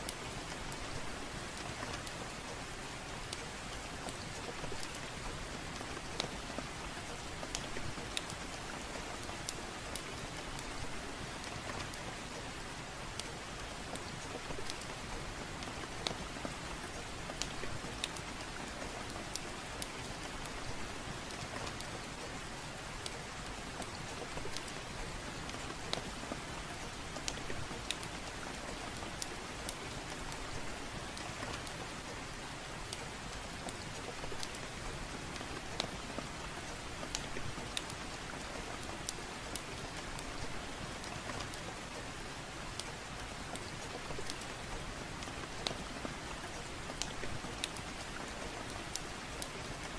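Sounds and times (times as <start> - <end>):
soft rain falling: 0.0 - 49.9
wood fire crackling: 0.0 - 49.9.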